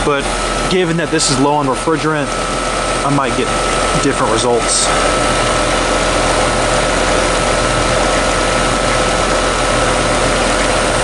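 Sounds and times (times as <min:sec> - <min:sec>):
condenser fan noise: 0:00.0 - 0:11.0
heat pump compressor hum: 0:00.0 - 0:11.0
steady whine: 0:00.0 - 0:11.0.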